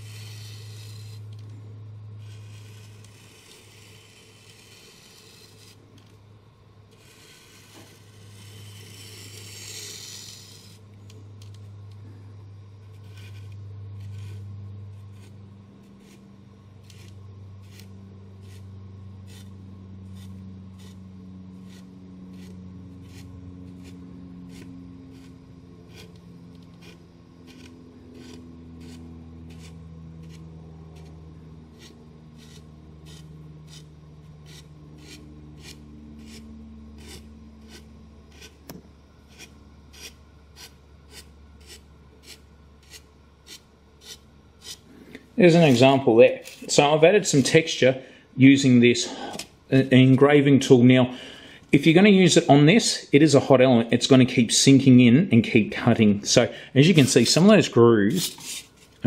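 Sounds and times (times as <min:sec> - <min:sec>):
hot wire scratching foam: 0:00.0 - 0:06.2, 0:06.9 - 0:12.0, 0:12.8 - 0:47.8, 0:56.8 - 0:59.0.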